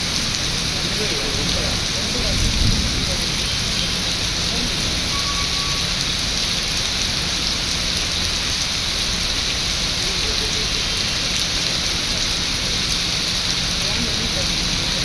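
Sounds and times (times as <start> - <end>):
heavy rain on concrete: 0.0 - 15.0.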